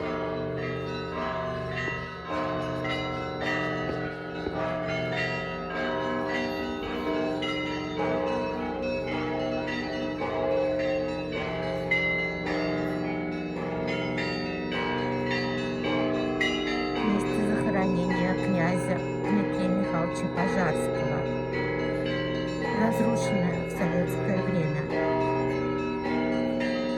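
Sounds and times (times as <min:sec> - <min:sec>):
hum of large bells: 0:00.0 - 0:26.9.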